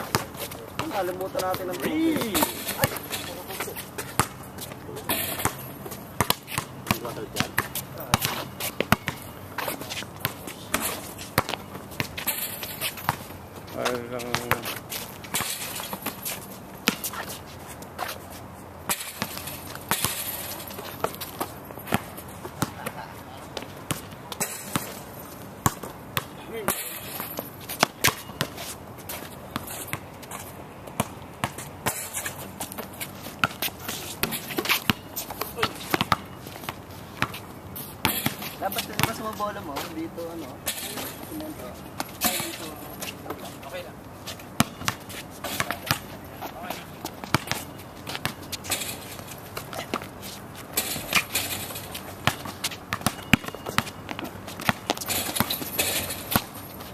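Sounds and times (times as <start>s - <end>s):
basketballs bouncing on court: 0.0s - 17.4s, 18.0s - 56.9s
sneaker footsteps and shuffling: 0.0s - 56.9s.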